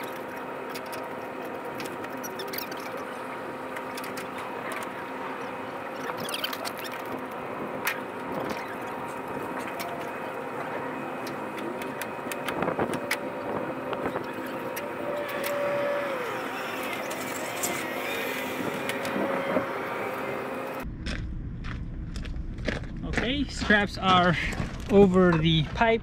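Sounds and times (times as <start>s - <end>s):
vehicle engine humming: 0.0s - 25.8s.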